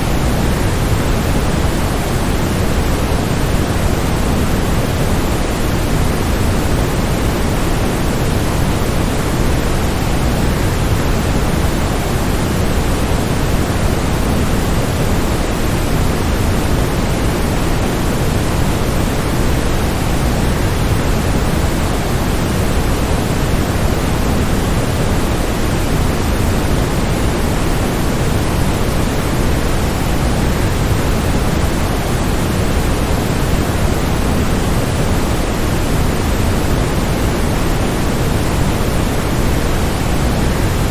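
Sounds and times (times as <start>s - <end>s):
steady rush of white noise: 0.0s - 40.9s.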